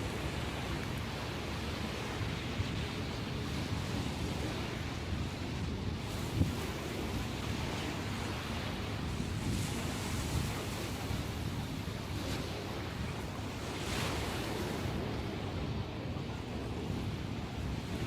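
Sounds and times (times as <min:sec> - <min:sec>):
sea waves breaking on shore: 0:00.0 - 0:18.0
wind buffeting microphone: 0:00.0 - 0:18.0.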